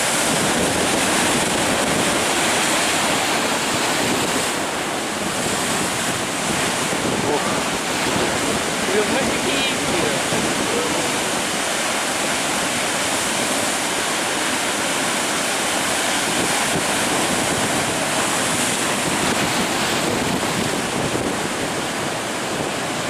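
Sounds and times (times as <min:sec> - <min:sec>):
ocean waves breaking: 0:00.0 - 0:23.0
wind on microphone: 0:00.0 - 0:23.0.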